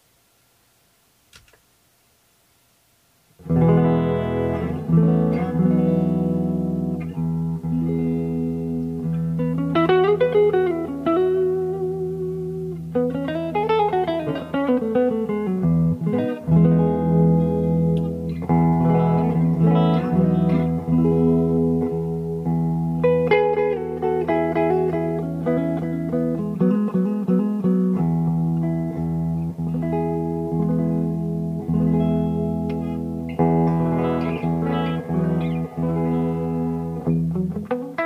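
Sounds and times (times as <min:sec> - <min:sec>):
guitar chords and sliding notes: 0:03.4 - 0:38.0.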